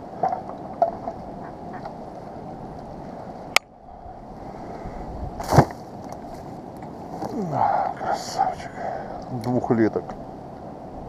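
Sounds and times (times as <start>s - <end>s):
wind noise: 0.0s - 11.0s.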